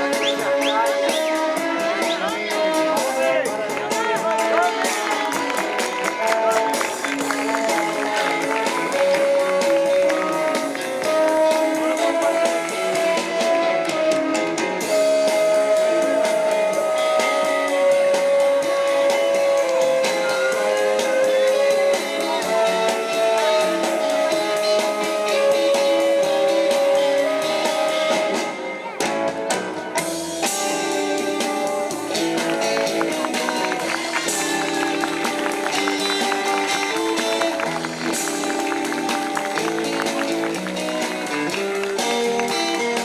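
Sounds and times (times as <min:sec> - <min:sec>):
band music with guitars and drums: 0:00.0 - 0:43.0.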